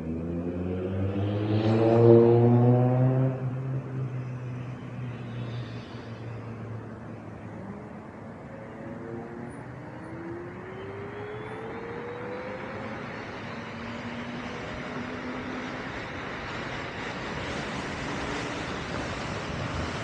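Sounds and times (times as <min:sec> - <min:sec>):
wind and tyre noise: 0:00.0 - 0:20.0.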